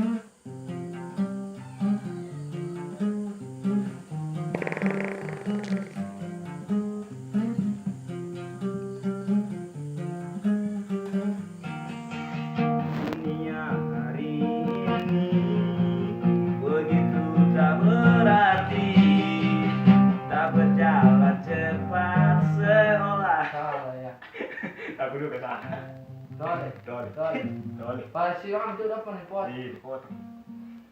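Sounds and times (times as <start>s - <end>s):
acoustic guitar playing: 0.0s - 23.4s, 25.4s - 30.9s.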